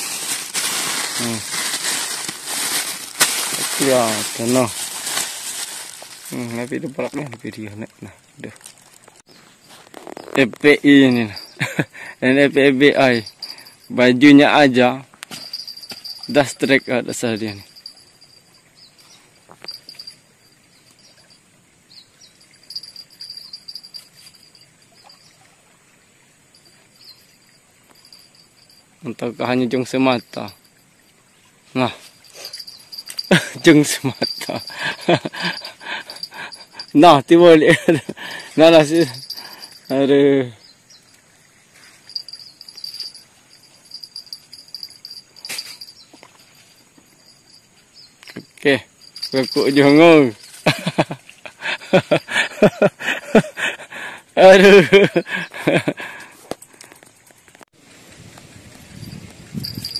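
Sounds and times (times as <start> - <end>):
insects trilling: 0.0 - 57.1.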